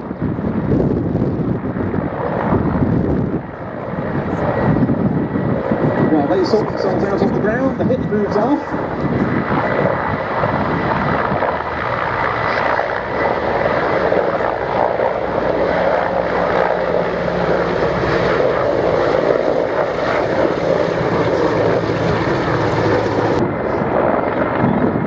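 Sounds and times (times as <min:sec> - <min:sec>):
helicopter turbine and rotor noise: 0:00.0 - 0:25.0.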